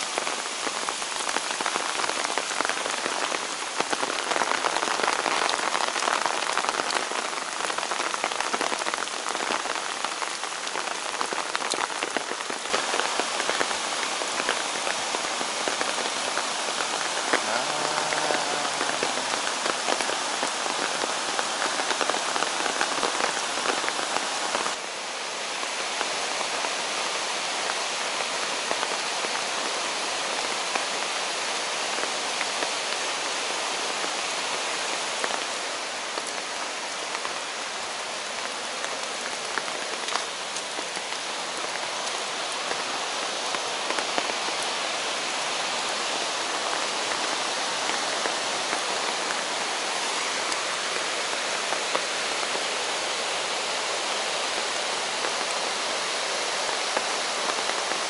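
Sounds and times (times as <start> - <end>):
rain falling in forest: 0.0 - 58.0.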